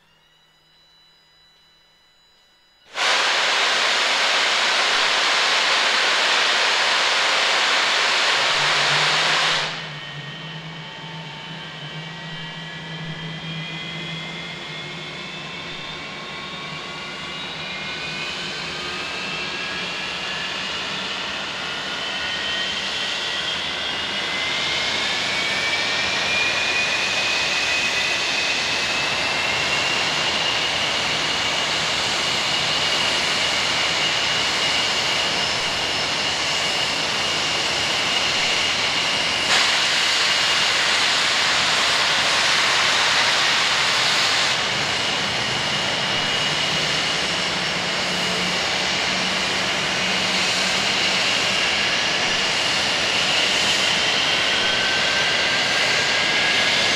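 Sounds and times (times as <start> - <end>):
jet engine whine rising: 0.0 - 1.6, 2.8 - 56.9.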